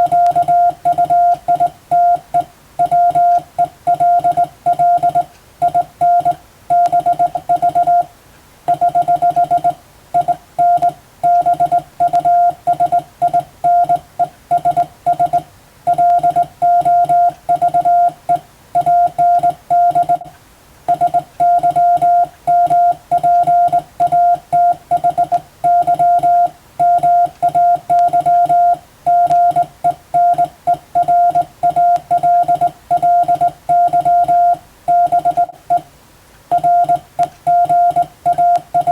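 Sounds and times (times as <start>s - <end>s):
morse code beeping tone: 0.0s - 8.1s, 8.7s - 20.3s, 20.9s - 35.8s, 36.5s - 38.9s.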